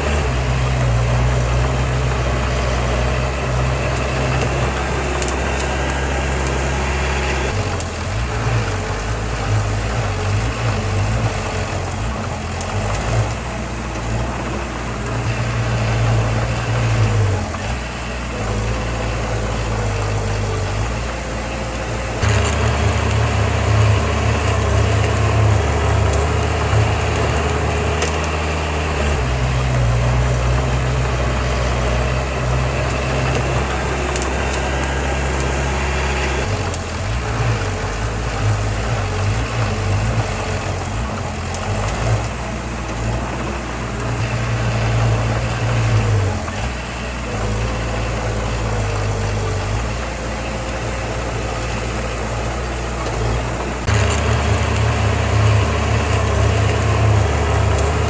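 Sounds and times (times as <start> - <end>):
heavy diesel engine drone: 0.0 - 58.0.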